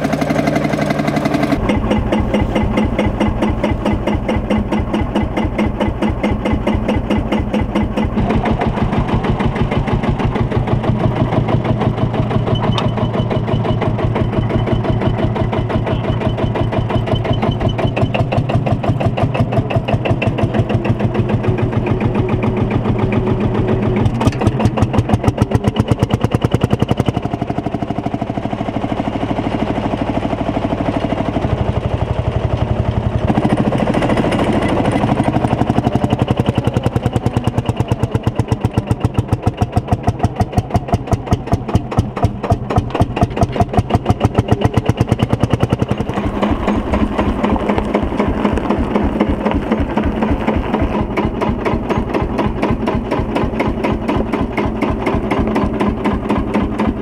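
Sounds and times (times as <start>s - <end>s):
tractor diesel engine chugging: 0.0s - 57.0s.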